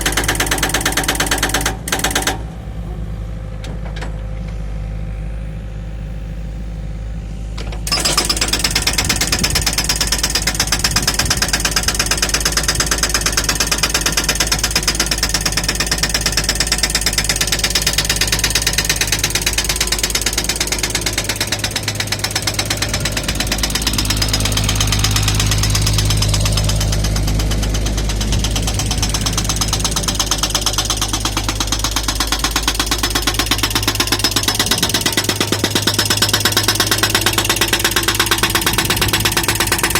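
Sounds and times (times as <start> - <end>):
hydraulic breaker hammer pounding: 0.0 - 2.6, 7.6 - 39.9
diesel engine running: 0.0 - 39.9.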